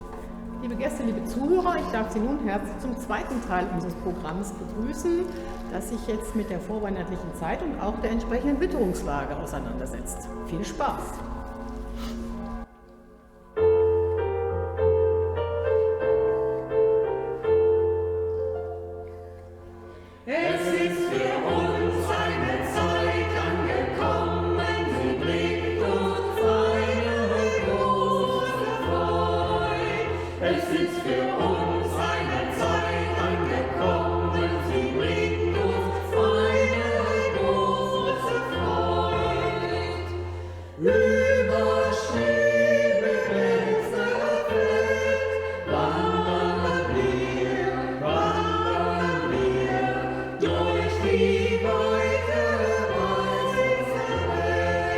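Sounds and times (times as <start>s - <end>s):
choir singing: 0.0s - 12.7s, 13.6s - 54.9s
low accompaniment notes: 0.0s - 54.9s.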